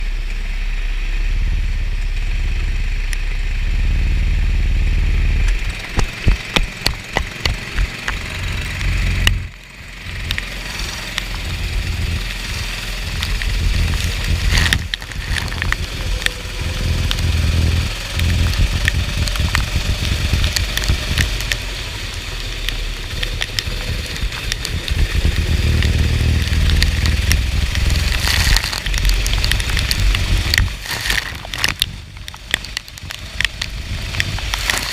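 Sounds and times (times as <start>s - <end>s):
go-kart engine surging: 0.0s - 34.9s
rain and water spray hiss: 0.0s - 34.9s.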